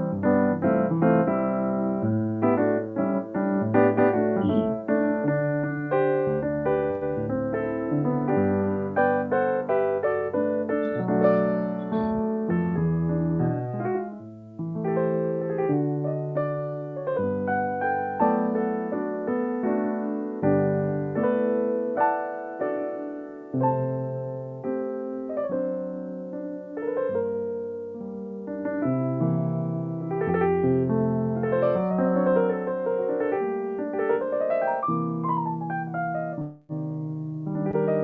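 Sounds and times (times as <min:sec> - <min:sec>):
slow solo piano piece: 0:00.0 - 0:38.0.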